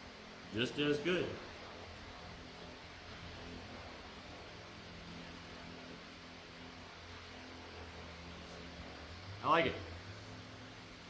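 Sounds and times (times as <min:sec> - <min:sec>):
shop background hum and hiss: 0:00.0 - 0:11.0.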